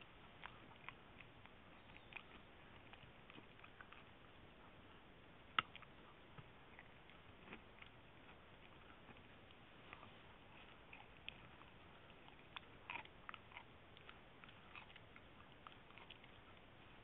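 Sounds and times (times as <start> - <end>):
dog chewing: 0.0 - 17.0.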